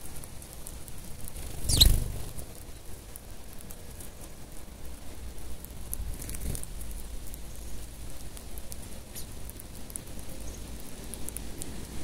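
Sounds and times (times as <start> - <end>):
sparrows pecking seed: 0.0 - 12.0.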